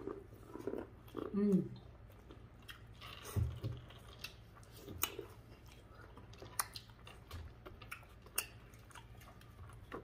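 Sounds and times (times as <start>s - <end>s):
chewing and wet smacking: 0.0s - 10.0s.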